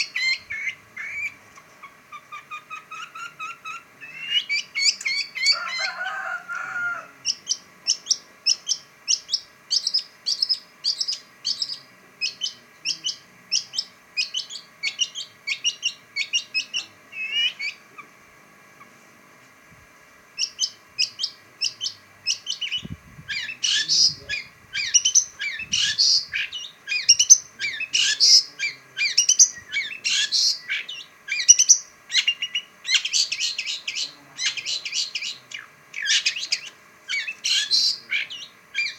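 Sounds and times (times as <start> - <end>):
bird chattering song: 0.0 - 18.2, 20.4 - 38.9.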